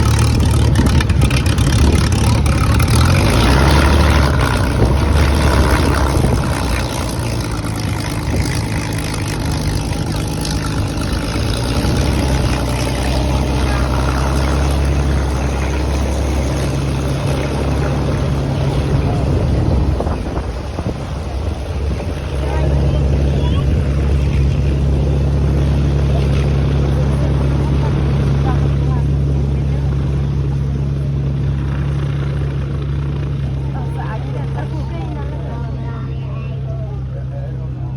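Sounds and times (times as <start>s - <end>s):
aircraft piston engine drone: 0.0s - 37.9s.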